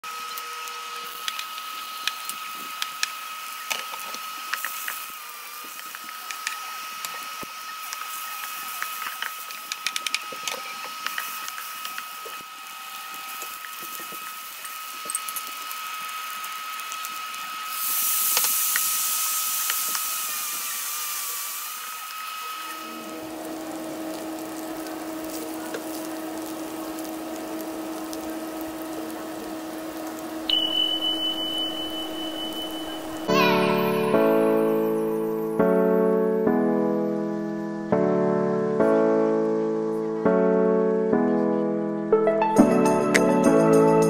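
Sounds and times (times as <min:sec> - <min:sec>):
food sizzling: 0:00.0 - 0:36.4
induction cooktop whine: 0:00.0 - 0:41.2.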